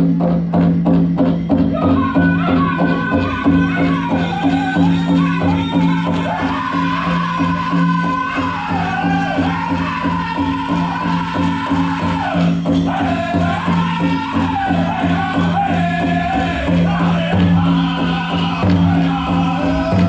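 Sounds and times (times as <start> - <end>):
big drum beat: 0.0 - 20.0
high-pitched group singing: 1.8 - 20.0.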